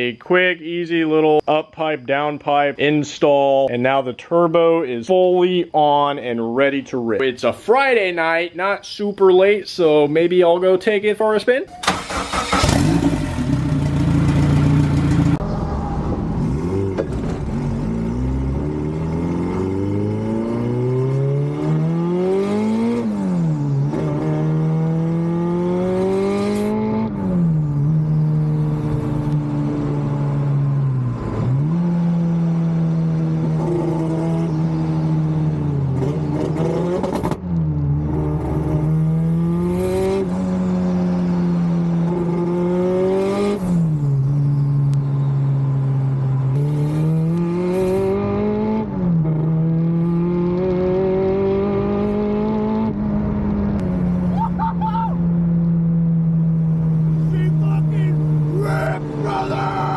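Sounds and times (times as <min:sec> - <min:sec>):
car engine accelerating through gears: 0:11.8 - 0:59.9.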